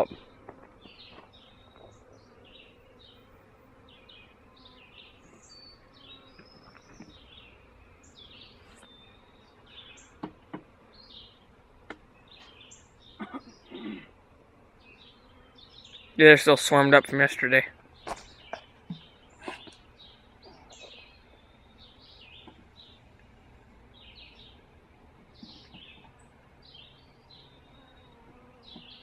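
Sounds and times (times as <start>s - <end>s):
bee swarm buzzing: 0.0s - 29.0s
songbirds chirping: 0.0s - 29.0s.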